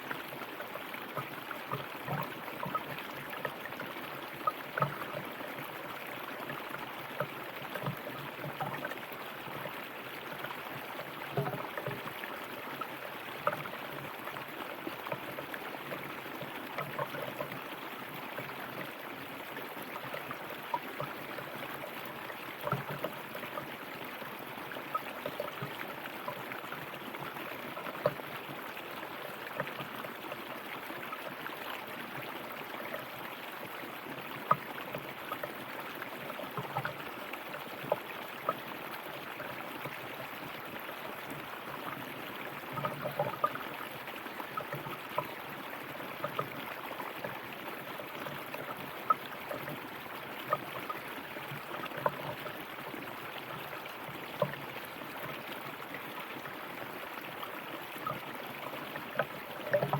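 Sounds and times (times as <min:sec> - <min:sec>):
river flowing over stones: 0:00.0 - 0:59.9
water splashes and gurgles: 0:00.0 - 0:59.9.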